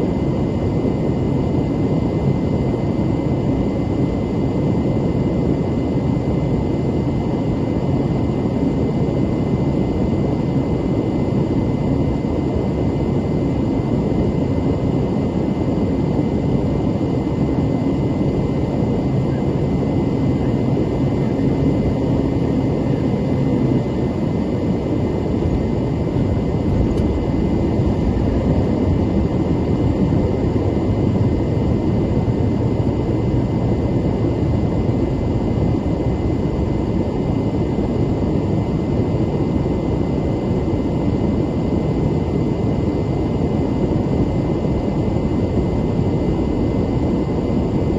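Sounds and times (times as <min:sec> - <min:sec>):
turboprop engines droning: 0:00.0 - 0:47.9.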